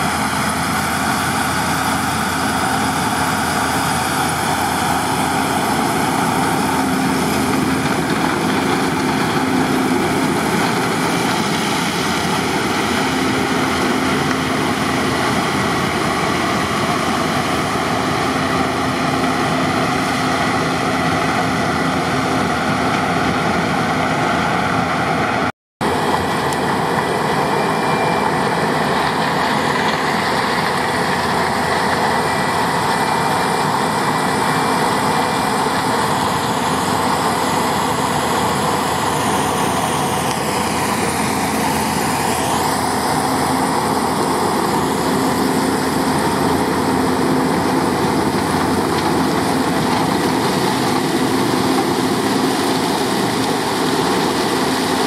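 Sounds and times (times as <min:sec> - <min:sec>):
combine harvester running: 0:00.0 - 0:55.0
high whine: 0:00.0 - 0:55.0.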